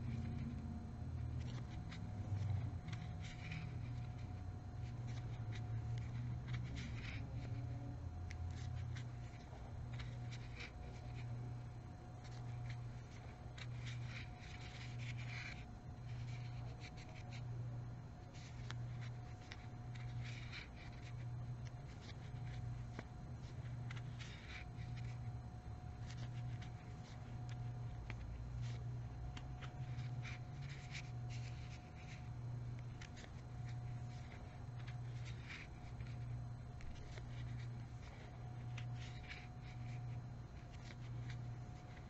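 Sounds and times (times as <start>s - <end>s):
crochet hook and yarn scratching: 0.0s - 42.0s
low pulsing hum: 0.0s - 42.0s.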